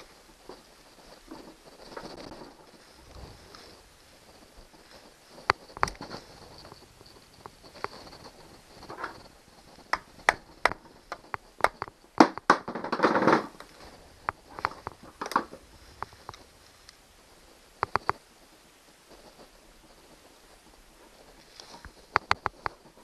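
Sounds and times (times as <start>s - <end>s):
rustling scrape: 0.0s - 11.6s, 13.1s - 17.8s, 18.4s - 23.0s.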